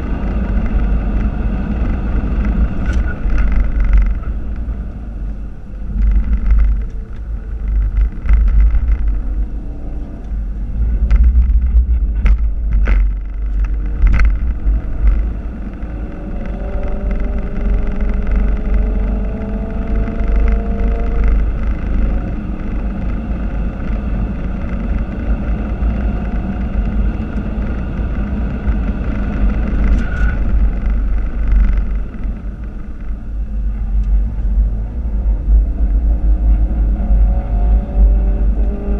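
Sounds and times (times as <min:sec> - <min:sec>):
car engine: 0:00.0 - 0:38.9
wind and road rumble: 0:00.0 - 0:38.9.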